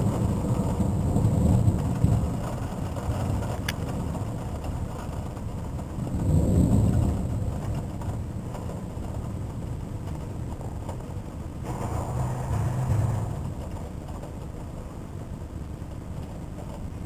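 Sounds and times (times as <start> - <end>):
thunder rumbling low: 0.0 - 17.0.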